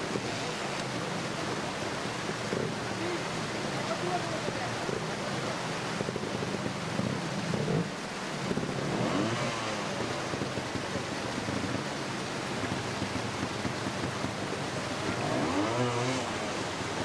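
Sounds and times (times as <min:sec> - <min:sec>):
motorcycle engine revving: 0:00.0 - 0:17.0
steady rushing noise: 0:00.0 - 0:17.0.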